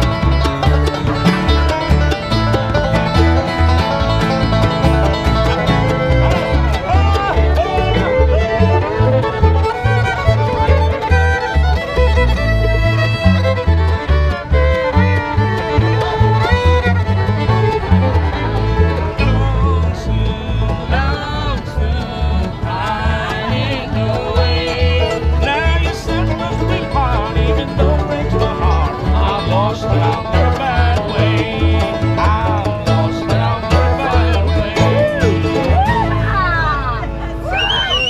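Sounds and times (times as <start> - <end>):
bluegrass band playing: 0.0 - 38.0
fiddle melody: 0.0 - 38.0.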